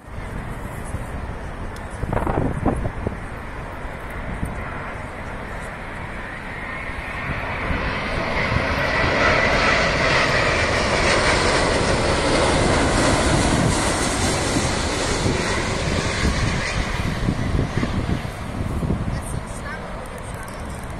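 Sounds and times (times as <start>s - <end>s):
jet airliner roar with whine: 0.0s - 20.9s.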